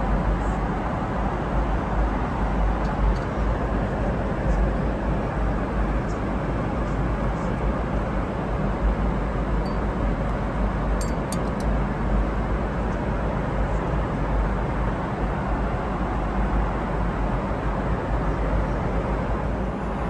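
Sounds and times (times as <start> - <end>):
airliner cabin air and engine noise: 0.0 - 20.0.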